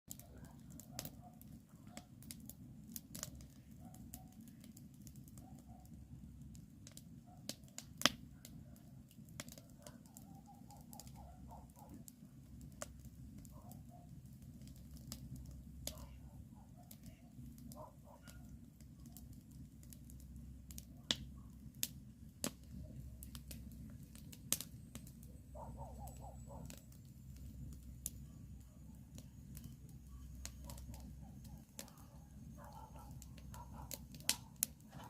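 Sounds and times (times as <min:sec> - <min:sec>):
campfire crackling and popping: 0:00.1 - 0:35.0.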